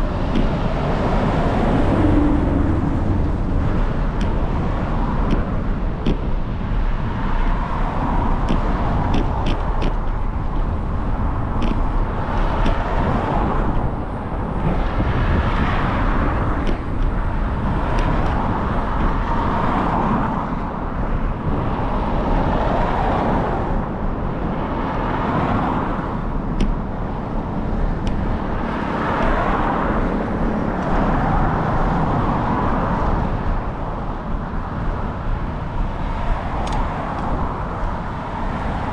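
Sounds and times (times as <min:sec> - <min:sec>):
passing traffic: 0:00.0 - 0:38.9
wind and road noise: 0:00.0 - 0:38.9.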